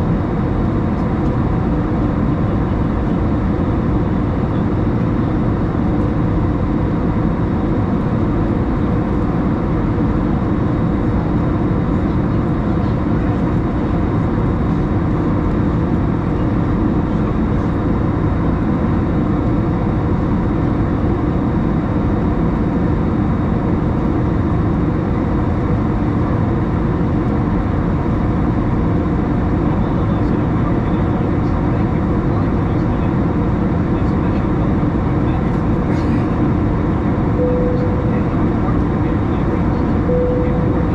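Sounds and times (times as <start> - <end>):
airplane cabin engine and airflow noise: 0.0 - 40.9.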